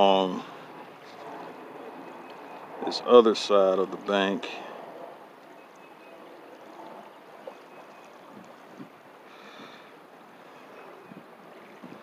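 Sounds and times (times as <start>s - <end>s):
faint outdoor background hiss: 0.0s - 12.0s.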